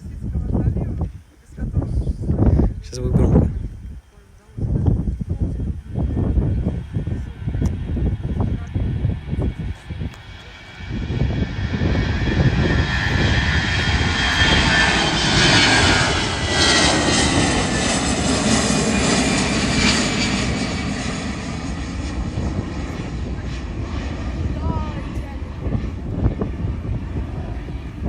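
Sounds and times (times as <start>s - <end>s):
jet plane passing: 0.0s - 28.0s.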